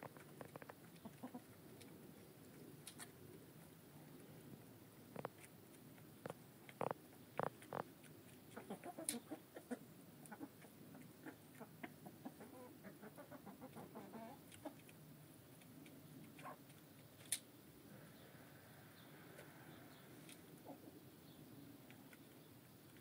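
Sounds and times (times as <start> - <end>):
hens clucking: 0.0 - 4.5, 5.2 - 15.0, 16.2 - 17.1, 18.6 - 23.0.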